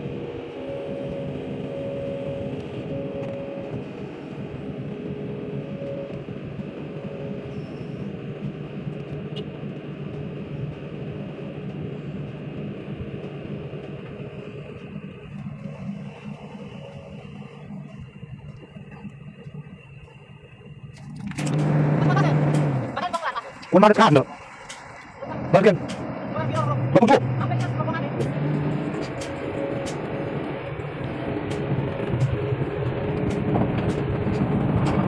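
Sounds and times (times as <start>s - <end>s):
excavator diesel engine running: 0.0s - 35.0s
hydraulic whine: 0.0s - 35.0s.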